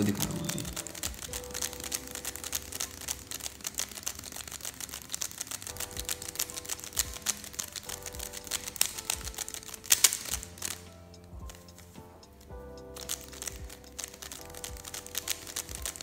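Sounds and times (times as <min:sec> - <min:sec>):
puzzle cube clicking: 0:00.0 - 0:16.0.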